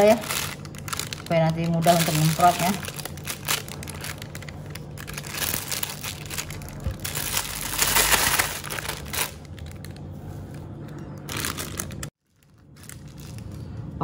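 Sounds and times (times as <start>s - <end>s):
plastic piping bag crinkling: 0.0s - 14.0s.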